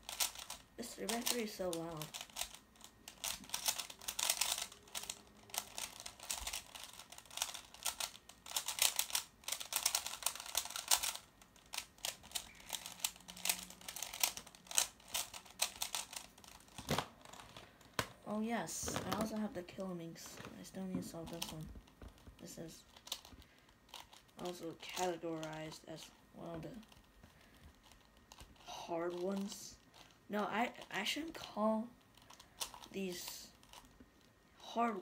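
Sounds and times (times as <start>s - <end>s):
puzzle cube plastic clicking: 0.0s - 19.4s, 20.4s - 31.0s, 31.9s - 34.4s.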